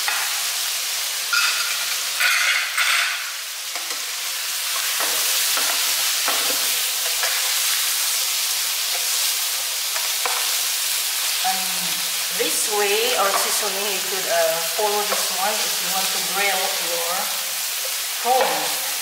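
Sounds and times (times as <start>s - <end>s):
prawns sizzling in oil: 0.0s - 19.0s.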